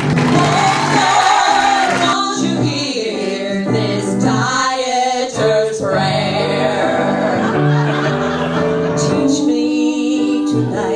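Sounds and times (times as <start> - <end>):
female vocal trio singing: 0.3 - 7.8, 9.0 - 10.9.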